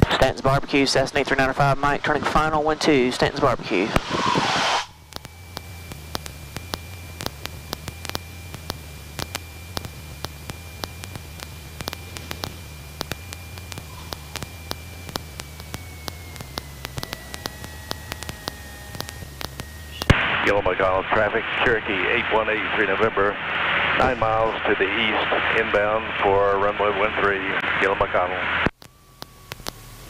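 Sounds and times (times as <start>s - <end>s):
faint steady whine: 0.0s - 30.0s
low engine drone: 0.0s - 30.0s
radio static hiss and clicks: 0.0s - 30.0s.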